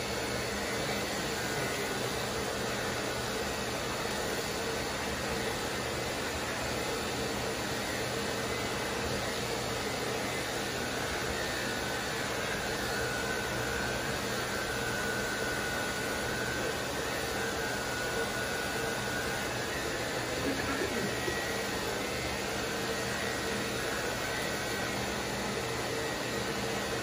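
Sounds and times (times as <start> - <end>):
electric clipper whirring: 0.0 - 27.0.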